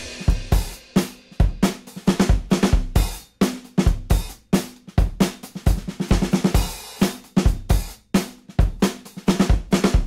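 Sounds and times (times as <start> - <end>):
music with drum beat: 0.0 - 10.0.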